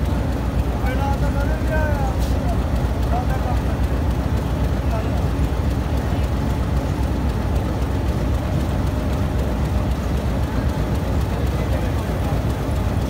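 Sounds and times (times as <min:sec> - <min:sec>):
train standing rumble: 0:00.0 - 0:13.0.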